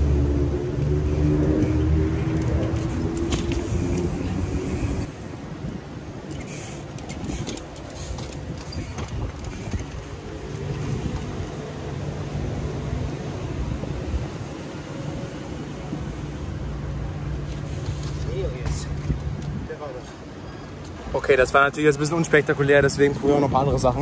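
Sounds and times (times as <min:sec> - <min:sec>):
vehicle engine hum: 0:00.0 - 0:21.1.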